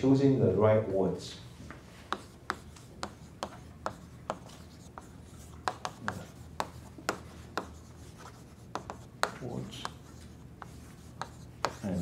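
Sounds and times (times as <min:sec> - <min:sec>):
chalk writing on chalkboard: 0:01.6 - 0:12.0.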